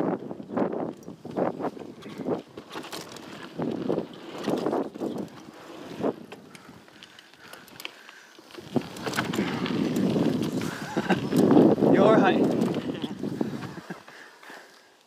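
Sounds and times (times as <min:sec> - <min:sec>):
wind buffeting microphone: 0:00.0 - 0:07.0, 0:08.6 - 0:14.0
bike tyres on loose dirt: 0:00.0 - 0:15.0
bike rattling and knocking: 0:00.8 - 0:13.2.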